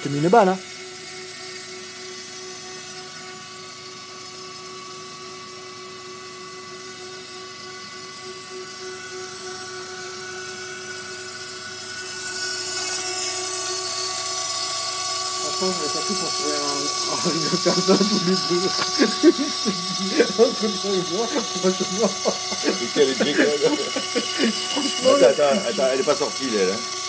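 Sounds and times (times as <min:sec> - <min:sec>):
cnc router whine: 0:00.0 - 0:27.0.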